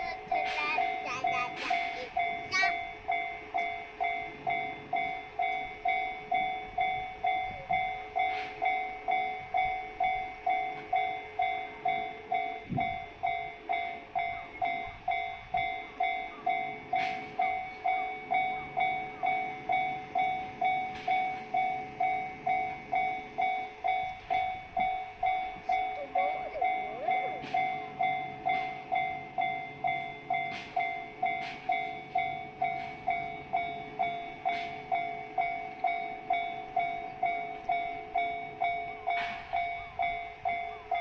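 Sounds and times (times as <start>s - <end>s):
level crossing alarm bell: 0.0s - 41.0s.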